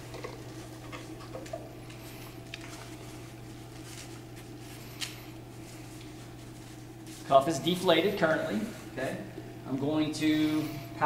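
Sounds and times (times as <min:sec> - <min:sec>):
rustling and handling: 0:00.0 - 0:09.5
low room hum: 0:00.0 - 0:11.0.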